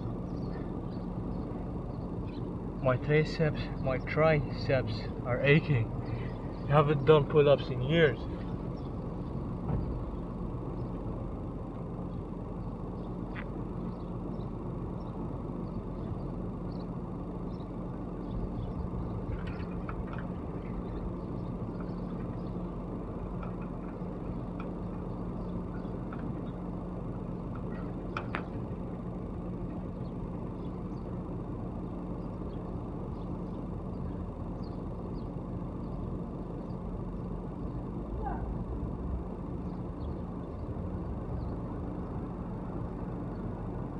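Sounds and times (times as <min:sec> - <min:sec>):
low droning hum: 0:00.0 - 0:43.9.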